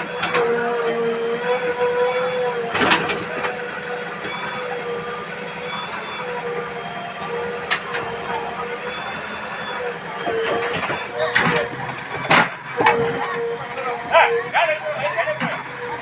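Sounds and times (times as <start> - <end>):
backhoe diesel engine and hydraulics: 0.0 - 16.0.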